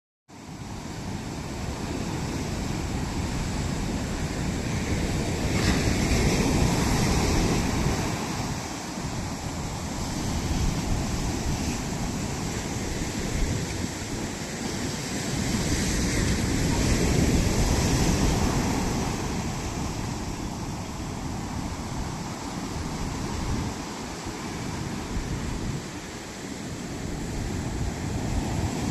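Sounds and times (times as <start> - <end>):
ocean waves breaking: 0.3 - 28.9
wind buffeting microphone: 0.5 - 28.9.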